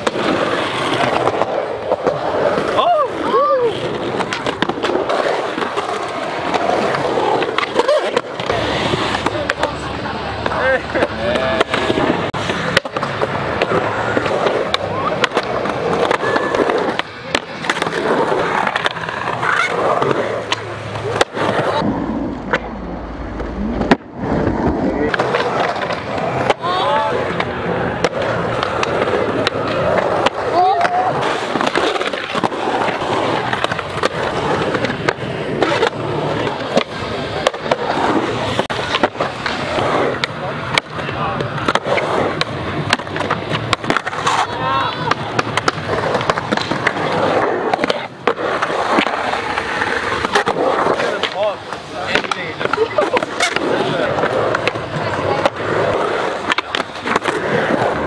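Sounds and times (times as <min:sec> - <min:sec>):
skateboard clacks: 0:00.0 - 0:58.0
skateboard wheels rolling on concrete: 0:00.0 - 0:58.0.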